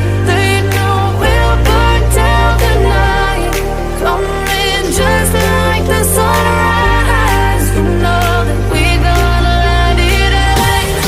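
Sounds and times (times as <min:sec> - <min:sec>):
song with bass and melodic lead: 0:00.0 - 0:11.0.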